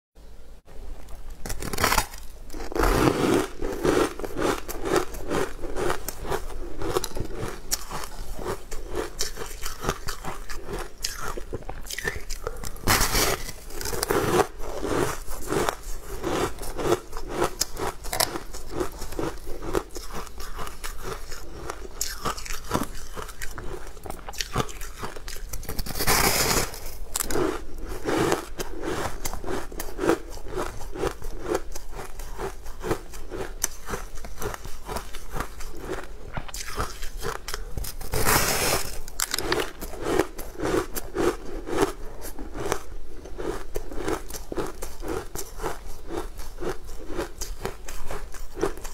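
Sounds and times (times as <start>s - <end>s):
crunchy bites: 1.0s - 48.9s
rhythmic chewing: 1.1s - 48.9s.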